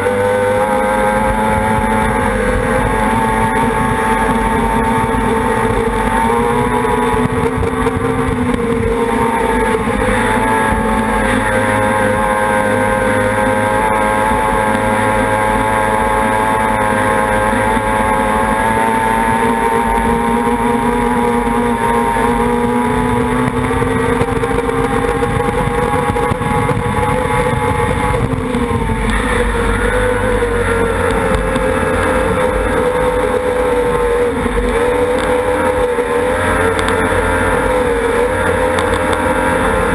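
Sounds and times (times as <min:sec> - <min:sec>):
racing outboard engine: 0:00.0 - 0:39.9
wind: 0:00.0 - 0:39.9.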